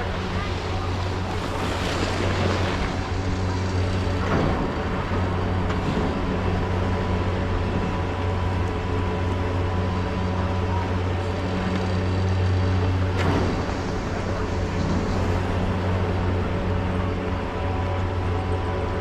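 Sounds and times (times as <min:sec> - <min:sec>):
chairlift machinery hum and whine: 0:00.0 - 0:19.0.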